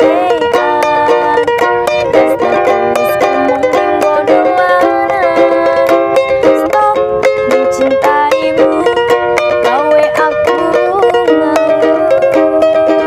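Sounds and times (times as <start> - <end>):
woman singing pop song: 0.0 - 9.0, 9.6 - 13.0
ukulele strumming: 0.0 - 13.0.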